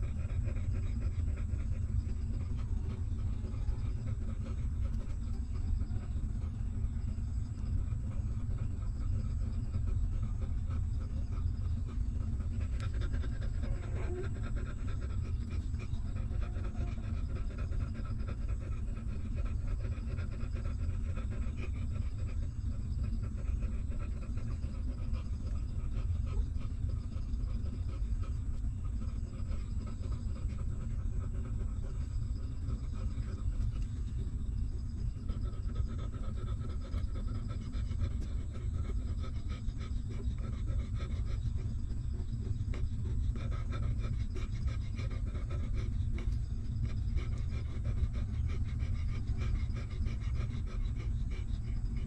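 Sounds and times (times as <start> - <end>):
dog panting: 0.0 - 52.0
steady low rumble: 0.0 - 52.0.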